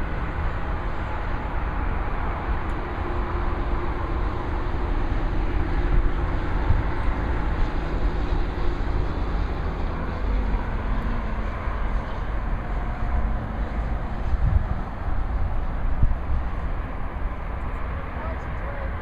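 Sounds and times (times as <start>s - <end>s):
highway traffic rumble: 0.0s - 19.0s.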